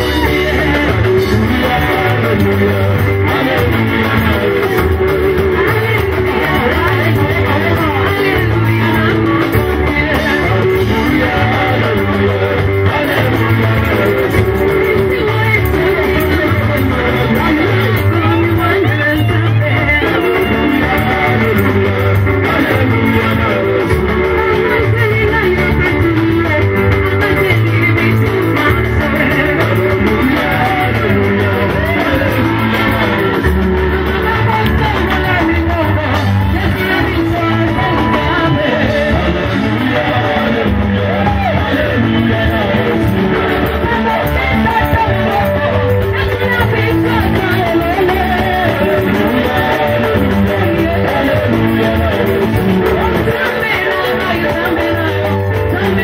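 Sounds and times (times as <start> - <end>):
band playing: 0.0 - 56.0
prominent bass line: 0.0 - 56.0
voices singing: 0.0 - 56.0.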